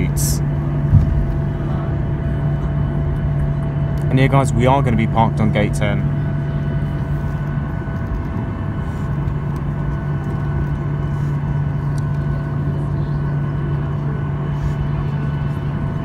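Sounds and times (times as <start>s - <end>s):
airplane cabin low hum: 0.0s - 16.0s
faint engine whine: 0.0s - 16.0s.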